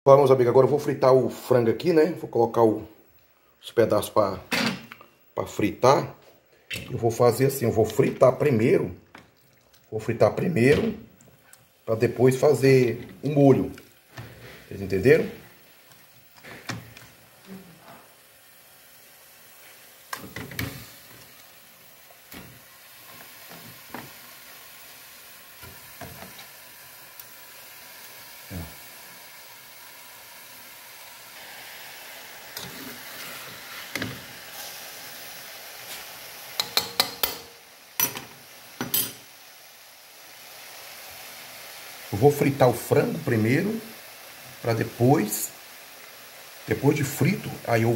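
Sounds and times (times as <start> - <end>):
chicken sizzling: 0.1 - 47.9.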